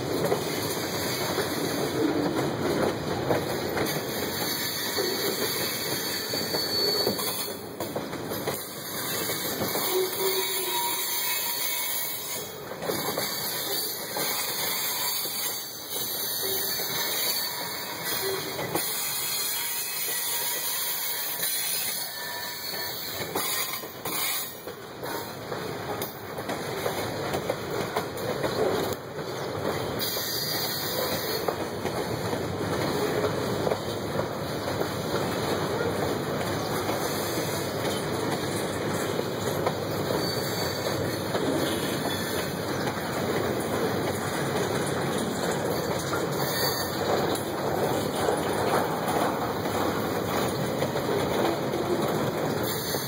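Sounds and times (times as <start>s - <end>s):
train wheels rumbling on rails: 0.0s - 53.0s
wheels clicking over rail joints: 0.0s - 53.0s.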